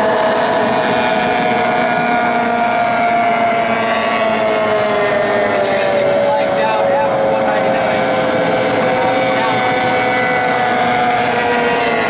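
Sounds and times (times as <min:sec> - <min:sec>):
racing outboard engines whining: 0:00.0 - 0:12.0.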